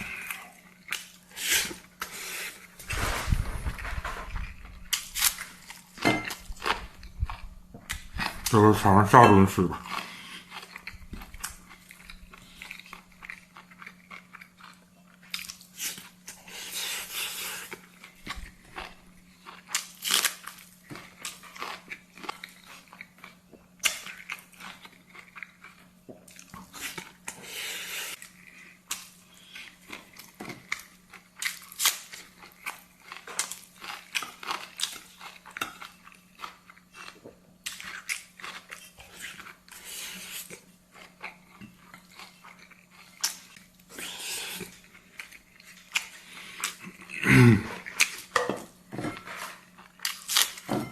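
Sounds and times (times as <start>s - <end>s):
person chewing crunchy food: 0.0s - 3.2s, 3.8s - 50.9s.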